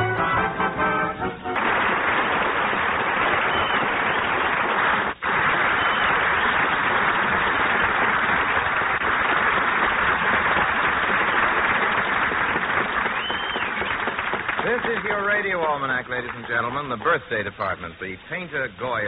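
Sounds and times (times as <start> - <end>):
audience applauding: 1.3 - 17.8.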